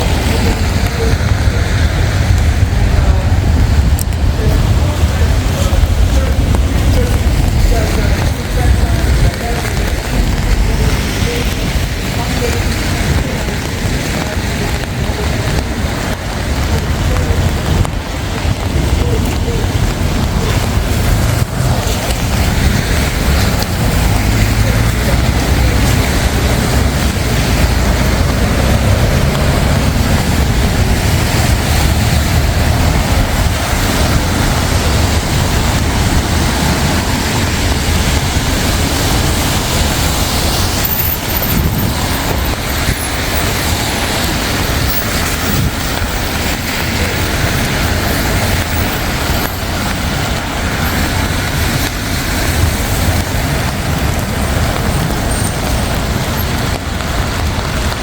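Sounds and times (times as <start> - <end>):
city road traffic rumble: 0.0 - 58.0.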